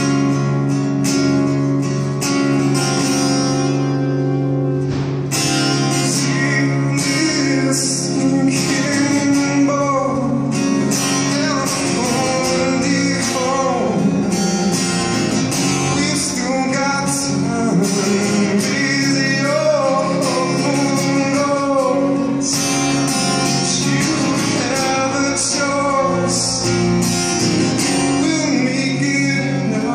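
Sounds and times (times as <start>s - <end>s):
acoustic guitar: 0.0s - 29.9s
man singing: 5.7s - 29.9s.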